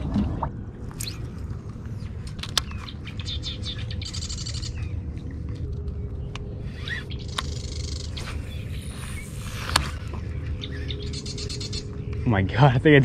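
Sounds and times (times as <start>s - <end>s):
steady low rumble: 0.0s - 13.0s
birds chirping and clicking: 0.8s - 13.0s.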